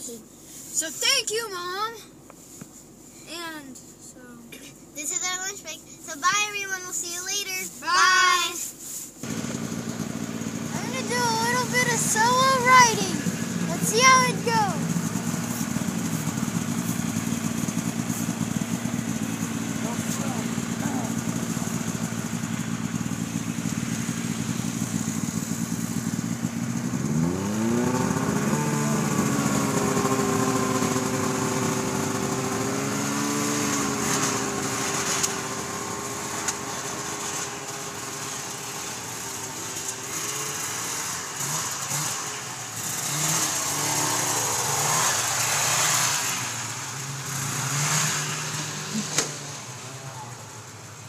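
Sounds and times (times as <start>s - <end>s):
snowmobile engine idling and revving: 0.0s - 51.0s.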